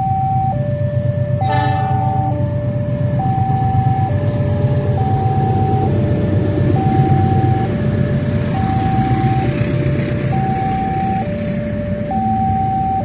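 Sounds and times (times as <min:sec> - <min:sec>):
low engine rumble: 0:00.0 - 0:13.0
two-tone electronic crossing alarm: 0:00.0 - 0:13.0.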